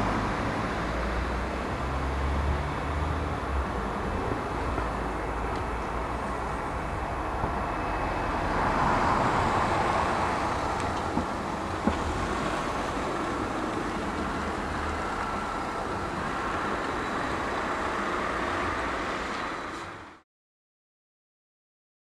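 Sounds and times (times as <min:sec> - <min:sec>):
distant jet engines: 0:00.0 - 0:20.2.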